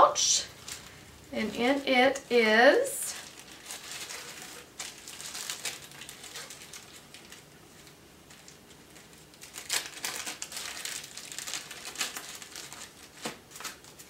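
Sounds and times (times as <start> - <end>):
packaging crinkling: 0.4 - 1.9, 3.1 - 14.0.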